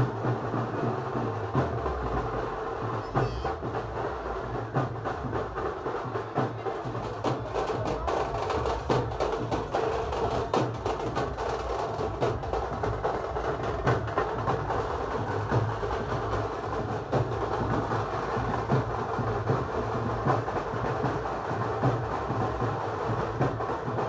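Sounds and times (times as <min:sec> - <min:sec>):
rapid drum strikes: 0:00.0 - 0:24.0.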